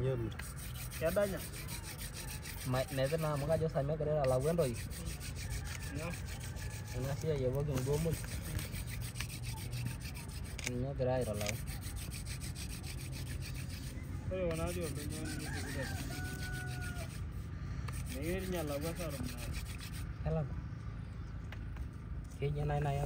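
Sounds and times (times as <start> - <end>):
wood rubbing on wood: 0.0 - 20.2.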